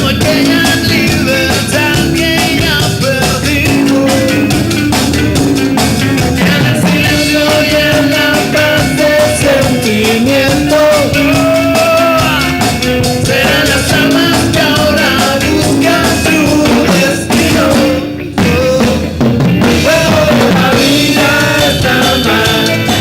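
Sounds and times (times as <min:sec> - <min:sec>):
drums steady beat: 0:00.0 - 0:23.0
rock band playing live: 0:00.0 - 0:23.0.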